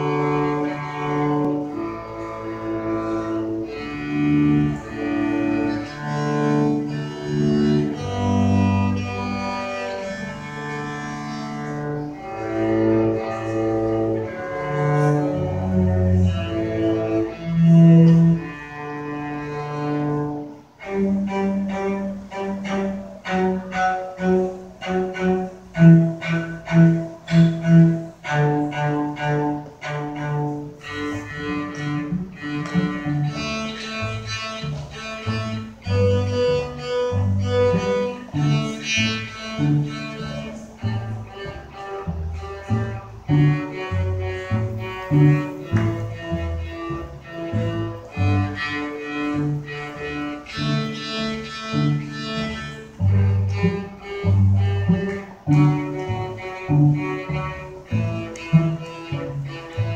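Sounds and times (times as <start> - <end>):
cellos playing with bow: 0.0 - 59.9.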